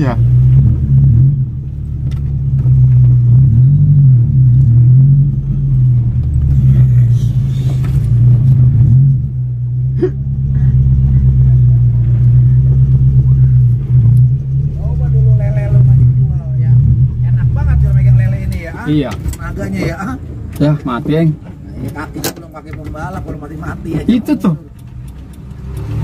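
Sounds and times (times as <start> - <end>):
car engine droning from inside cabin: 0.0 - 26.0.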